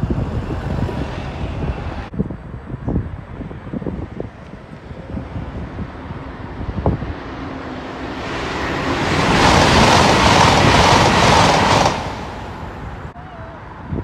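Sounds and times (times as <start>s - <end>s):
train passing at speed: 0.0s - 2.1s, 3.2s - 13.9s.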